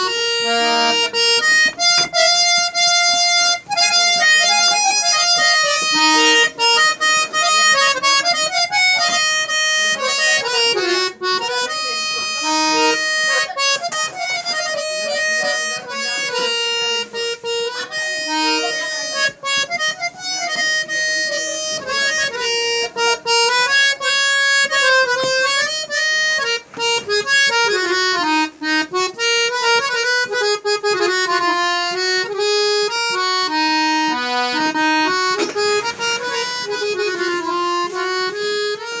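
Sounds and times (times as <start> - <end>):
harmonium melody: 0.0 - 39.0.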